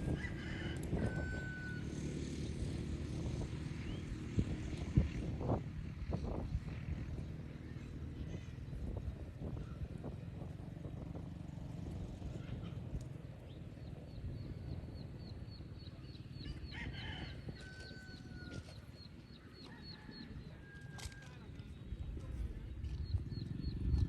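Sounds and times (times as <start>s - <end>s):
steady low rumble: 0.0s - 20.7s, 21.3s - 24.0s.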